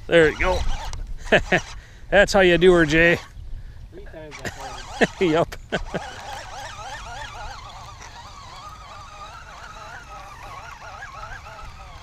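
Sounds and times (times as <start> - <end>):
fishing reel gears whining: 0.1 - 1.8, 4.1 - 12.0.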